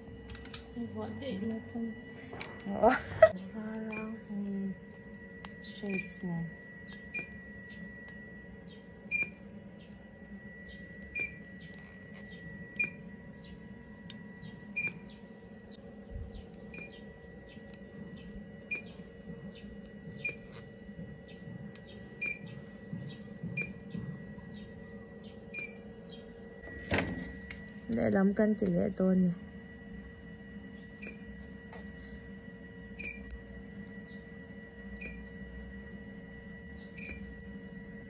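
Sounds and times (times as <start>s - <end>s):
steady high hum: 0.0s - 38.0s.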